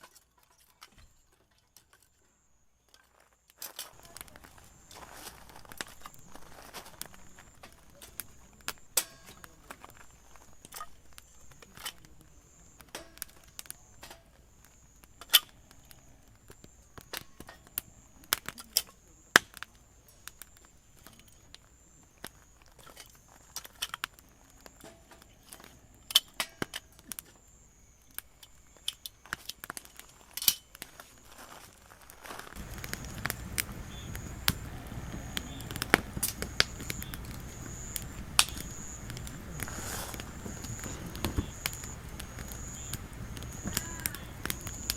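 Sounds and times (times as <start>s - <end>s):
faint insect trill: 0.0s - 31.8s, 32.5s - 44.9s
campfire wood crackling: 0.0s - 44.9s.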